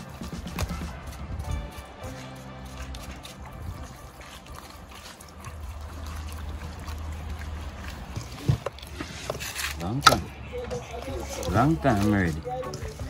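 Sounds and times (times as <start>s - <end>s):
wet squishing and rubbing: 0.0s - 13.0s.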